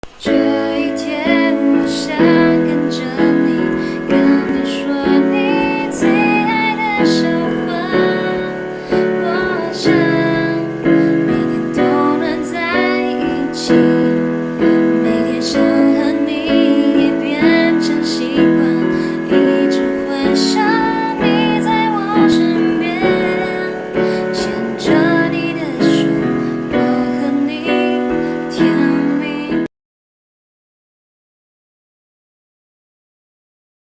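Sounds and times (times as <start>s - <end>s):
piano accompaniment: 0.0s - 29.7s
woman singing pop ballad: 0.2s - 29.7s.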